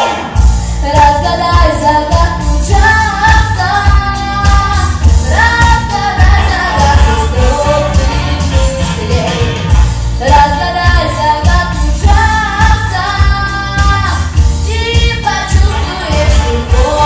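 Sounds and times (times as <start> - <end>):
heavy bass beat: 0.0 - 17.0
woman singing pop song: 0.0 - 17.0.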